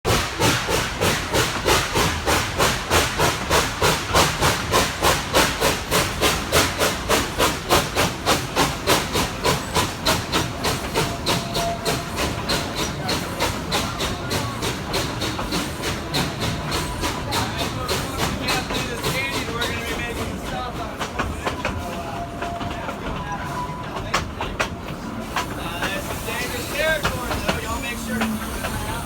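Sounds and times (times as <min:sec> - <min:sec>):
steam locomotive chuffing: 0:00.1 - 0:29.0.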